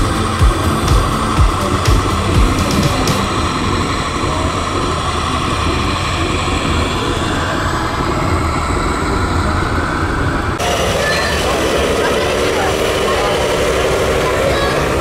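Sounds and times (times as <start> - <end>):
toy tractor engine rumble: 0.0 - 15.0.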